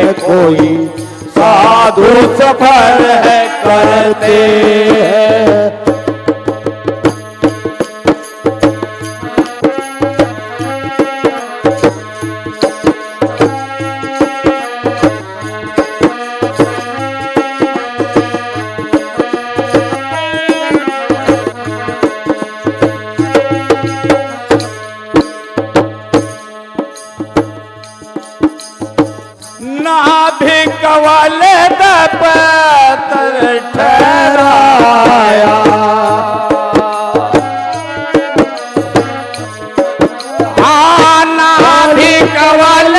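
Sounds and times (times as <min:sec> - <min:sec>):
hand drum percussion: 0:00.0 - 0:42.9.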